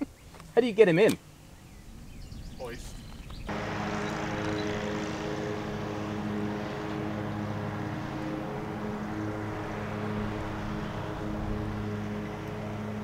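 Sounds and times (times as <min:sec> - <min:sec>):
engine droning: 0:01.2 - 0:13.0.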